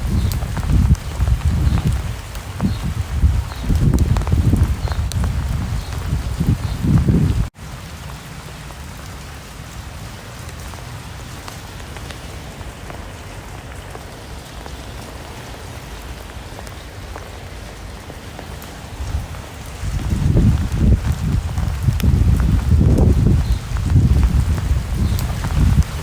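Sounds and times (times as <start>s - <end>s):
rain drop ticks: 0.0s - 26.0s
steady rain patter: 0.0s - 26.0s.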